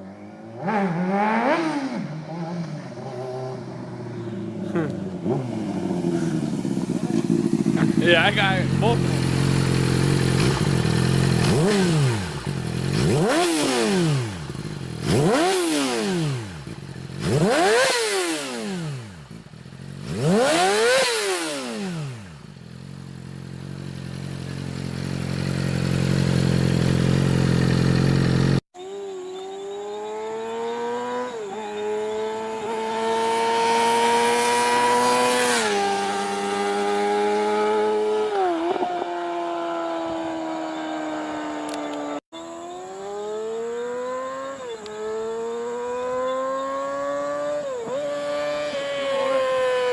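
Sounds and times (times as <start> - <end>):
motorcycles passing at speed: 0.0 - 49.9
motorcycle shifting up gears: 0.3 - 49.9.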